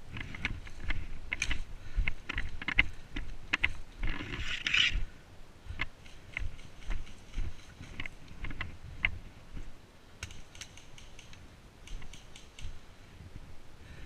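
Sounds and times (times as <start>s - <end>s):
gear clicks and knocks: 0.0s - 5.0s, 5.8s - 12.8s
rustle through grass: 0.0s - 13.6s.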